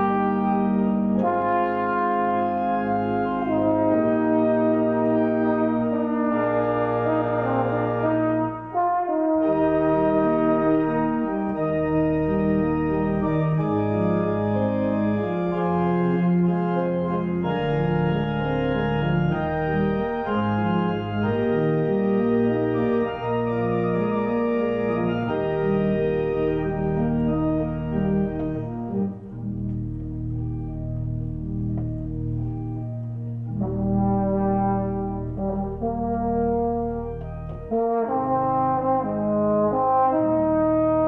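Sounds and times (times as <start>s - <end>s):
pipe organ playing held chords: 0.0s - 41.0s.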